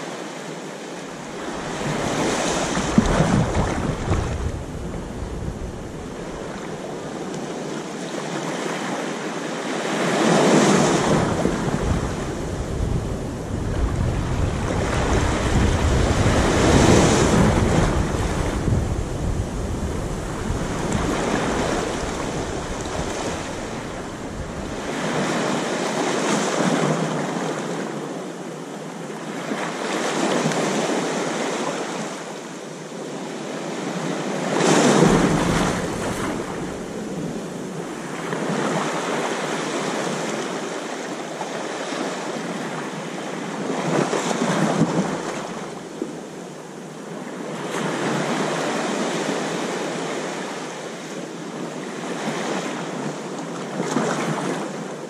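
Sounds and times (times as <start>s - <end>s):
small waves washing over sand: 0.0s - 28.1s, 28.9s - 55.0s.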